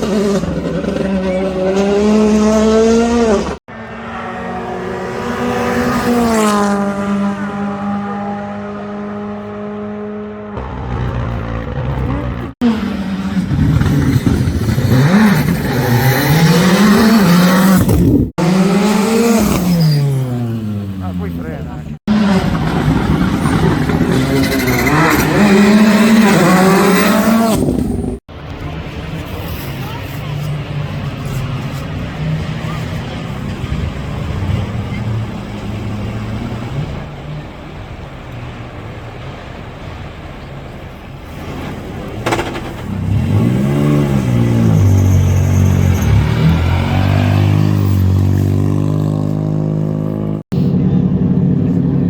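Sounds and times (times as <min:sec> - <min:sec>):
rally car engine revving: 0:00.0 - 0:37.5, 0:41.2 - 0:52.0.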